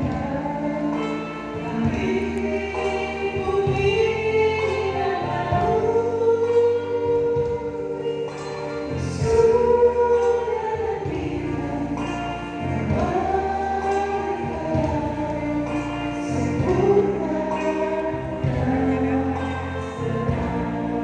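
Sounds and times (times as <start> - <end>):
choir singing gospel song: 0.0 - 21.0
instrumental accompaniment: 0.0 - 21.0.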